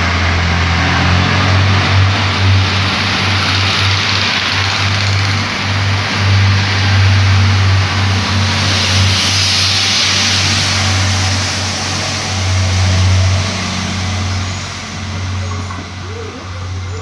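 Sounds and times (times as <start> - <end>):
train engine hum: 0.0 - 17.0
wheels rushing on rail: 0.0 - 17.0.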